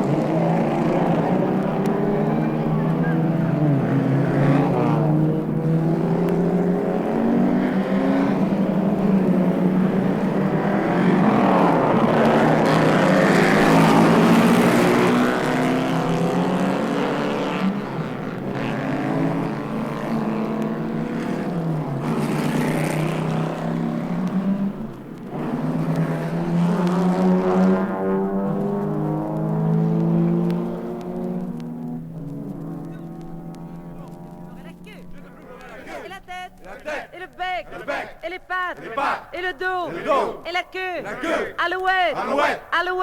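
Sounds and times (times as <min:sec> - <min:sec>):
vehicle engines passing: 0:00.0 - 0:43.0.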